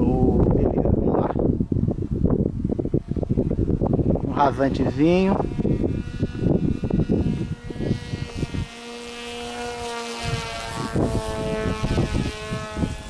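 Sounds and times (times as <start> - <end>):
electric motor and propeller whining: 0.0 - 13.0
wind buffeting microphone: 0.0 - 13.0.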